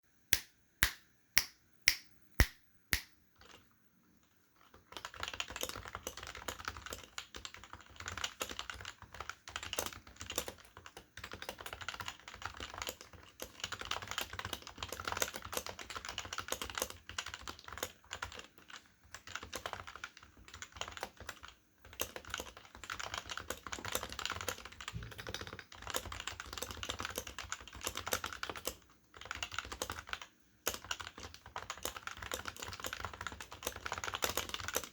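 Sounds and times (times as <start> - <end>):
typing on keyboard: 3.0 - 34.9.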